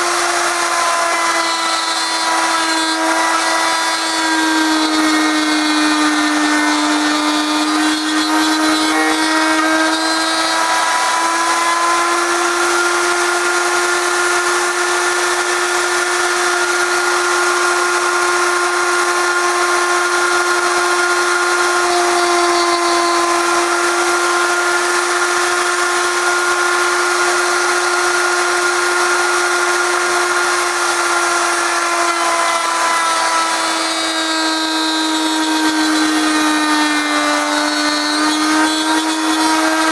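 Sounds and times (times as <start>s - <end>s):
router whining cutting wood: 0.0s - 39.9s.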